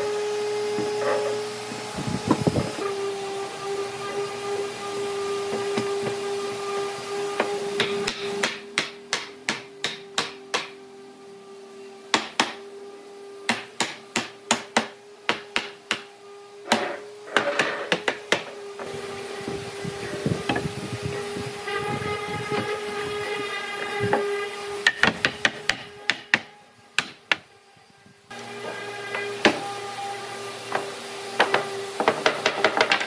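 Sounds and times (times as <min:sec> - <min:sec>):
steady machine hum: 0:00.0 - 0:11.2, 0:14.7 - 0:33.0.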